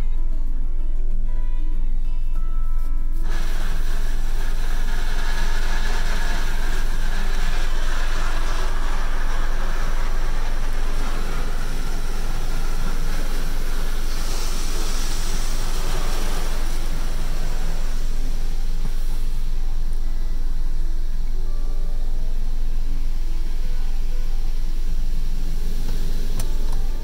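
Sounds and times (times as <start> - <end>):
bright hissy spray: 2.9 - 27.0
car wash jets spraying water: 3.2 - 27.0.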